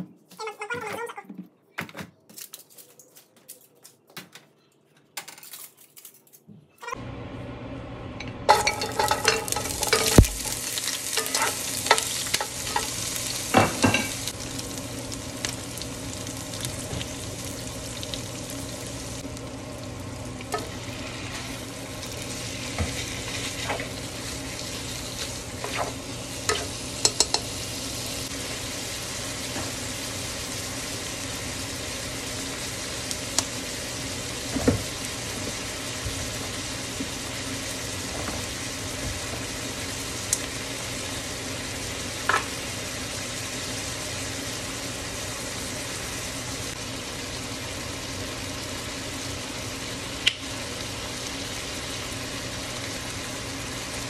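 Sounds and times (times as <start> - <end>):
food sizzling in hot oil: 8.5 - 54.0.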